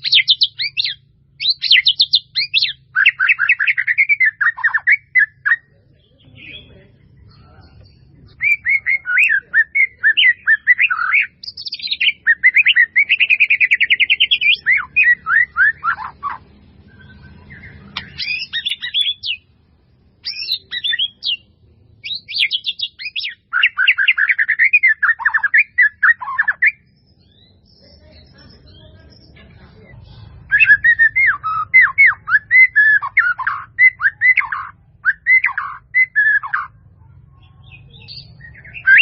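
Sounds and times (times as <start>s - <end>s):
bird singing: 0.0s - 39.0s.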